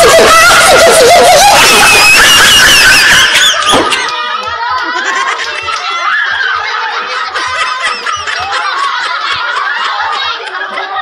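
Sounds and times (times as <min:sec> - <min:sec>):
group of people laughing: 0:00.0 - 0:11.0.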